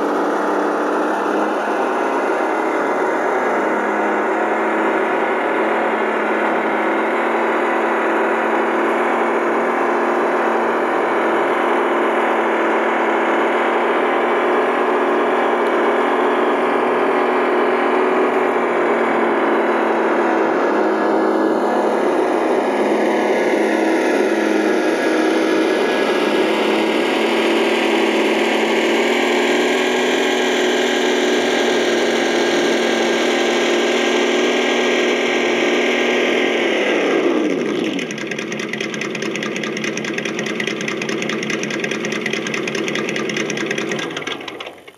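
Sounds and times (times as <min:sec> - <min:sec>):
simulated truck engine sound: 0:00.0 - 0:44.9.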